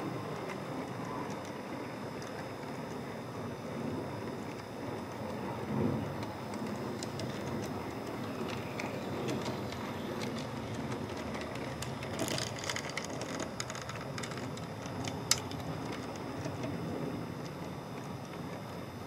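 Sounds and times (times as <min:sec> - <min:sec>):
model train rolling rumble: 0:00.0 - 0:19.0
track clicks: 0:00.0 - 0:19.0.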